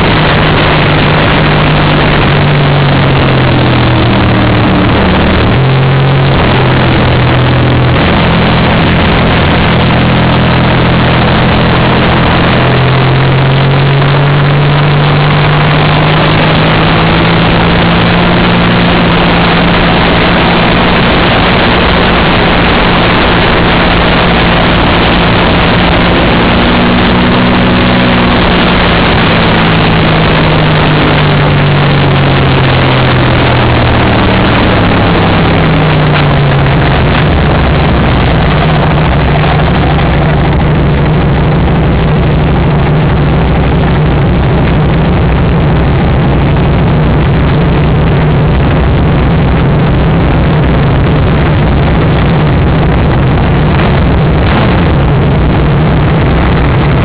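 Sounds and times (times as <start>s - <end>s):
racing motorcycle engine: 0.0s - 57.0s
wind rush over microphone: 0.0s - 57.0s.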